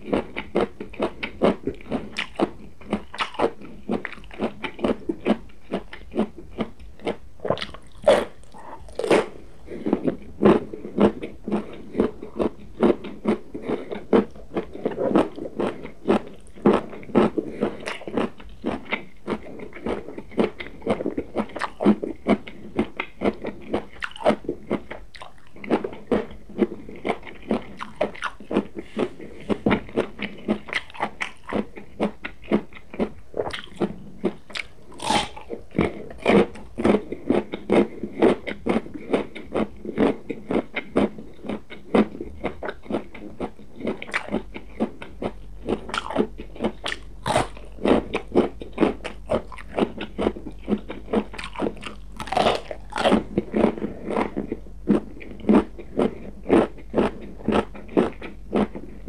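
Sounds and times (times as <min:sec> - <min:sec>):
crunching and chewing raw vegetables: 0:00.0 - 0:59.0.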